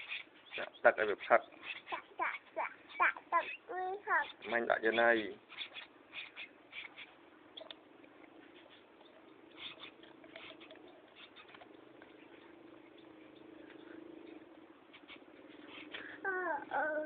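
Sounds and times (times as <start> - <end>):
bird chick squeaking: 0.0 - 7.8, 8.4 - 13.5, 14.2 - 16.7
steady low hum: 0.0 - 17.0.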